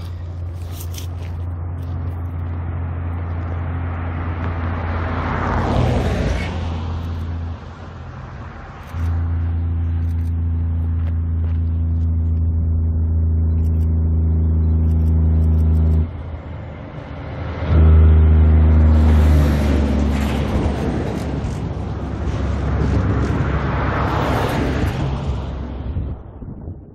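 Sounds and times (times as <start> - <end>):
truck and trailer rushing by: 0.0 - 26.8
truck engine drone: 0.0 - 26.9.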